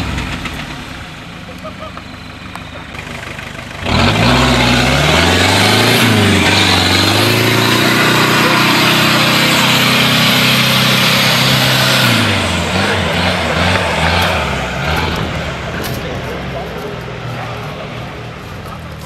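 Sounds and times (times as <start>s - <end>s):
engine revving hard: 2.9s - 18.2s.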